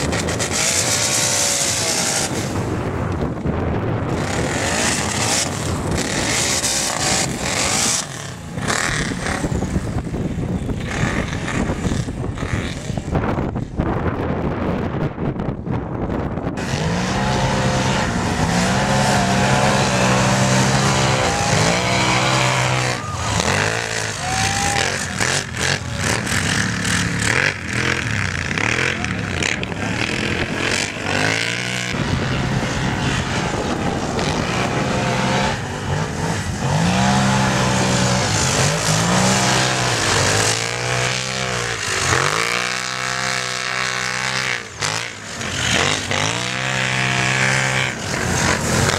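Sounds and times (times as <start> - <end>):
racing quad engines revving: 0.0 - 15.0, 16.0 - 48.9.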